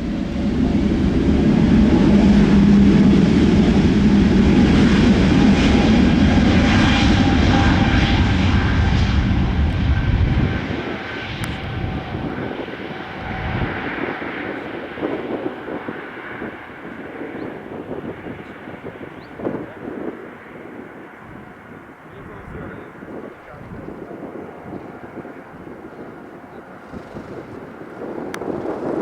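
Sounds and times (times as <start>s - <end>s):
jet engine whine: 0.0s - 29.0s
jet engines roaring: 0.0s - 29.0s.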